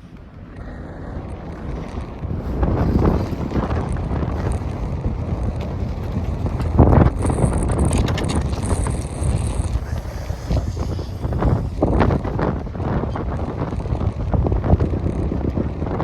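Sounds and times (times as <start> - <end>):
wind buffeting microphone: 0.0 - 16.0
ski lift clunks and rattles: 1.8 - 15.8.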